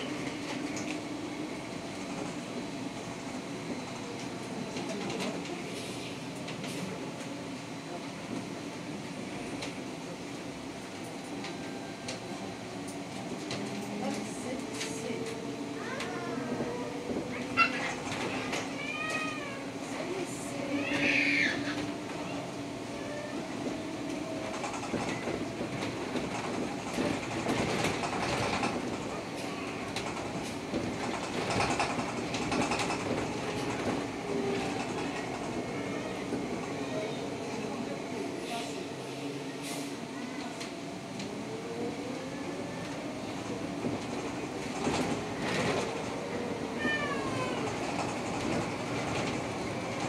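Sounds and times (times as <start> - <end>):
trolleybus rolling noise: 0.0 - 50.0.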